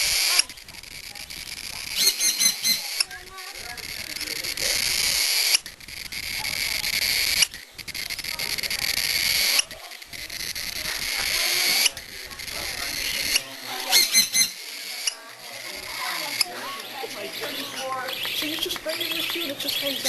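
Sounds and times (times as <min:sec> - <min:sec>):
bird hissing: 0:00.0 - 0:16.6.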